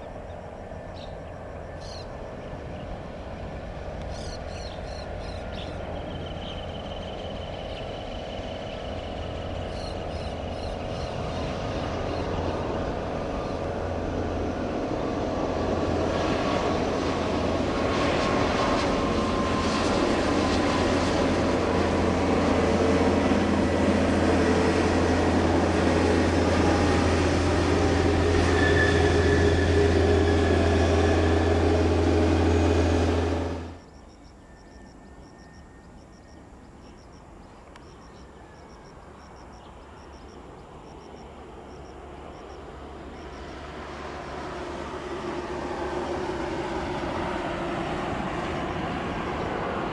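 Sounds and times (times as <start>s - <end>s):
distant jet noise: 0.0s - 33.9s, 35.3s - 49.9s
jet engine whine: 0.0s - 49.9s.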